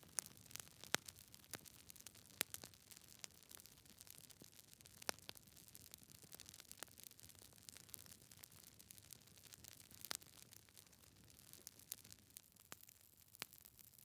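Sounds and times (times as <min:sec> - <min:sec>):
log fire crackling: 0:00.0 - 0:12.8.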